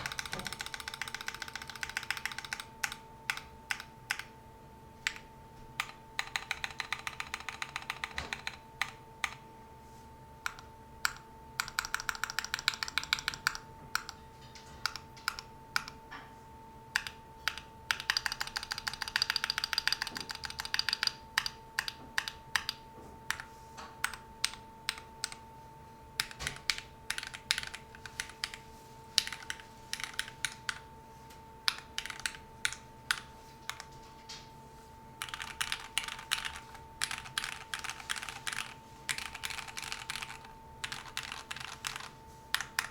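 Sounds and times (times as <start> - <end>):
mechanical keyboard typing: 0.0 - 4.3, 5.0 - 9.4, 10.4 - 16.0, 16.9 - 25.4, 26.2 - 30.9, 31.6 - 34.1, 35.2 - 42.9.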